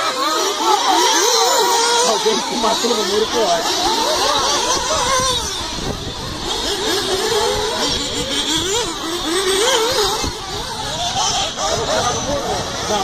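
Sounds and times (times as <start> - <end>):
rc buggy engines revving: 0.0 - 13.0.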